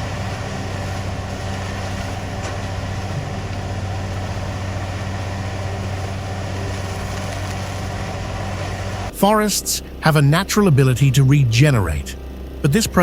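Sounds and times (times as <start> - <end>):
heavy machine engine running: 0.0 - 13.0
low hum: 0.0 - 13.0.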